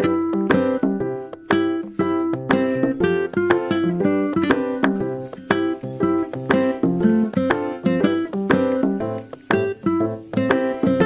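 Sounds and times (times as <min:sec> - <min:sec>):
plucked string and keyboard tune: 0:00.0 - 0:11.0.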